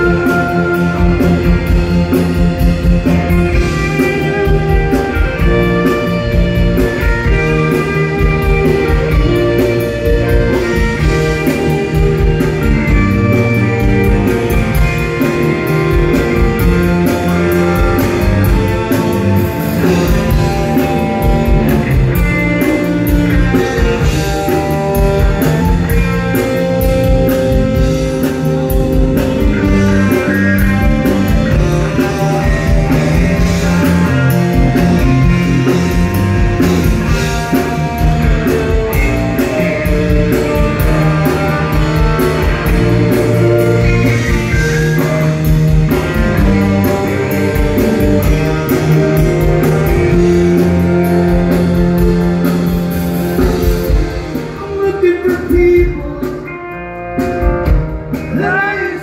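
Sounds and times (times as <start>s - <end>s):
drum kit: 0.0s - 59.0s
electric bass guitar: 0.0s - 59.0s
electric guitar: 0.0s - 59.0s.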